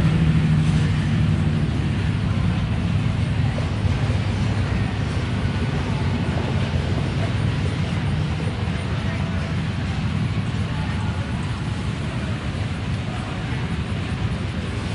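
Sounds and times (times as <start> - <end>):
low engine hum: 0.0 - 14.9.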